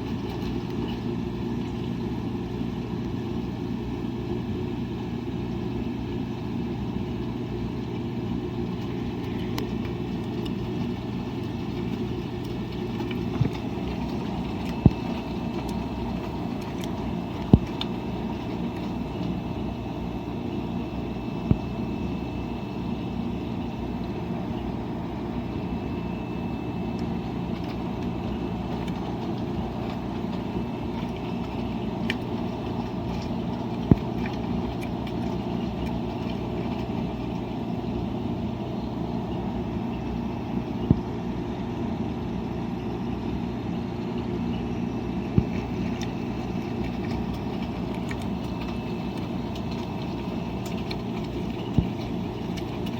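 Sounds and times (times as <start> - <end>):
washing machine drone: 0.0 - 52.9.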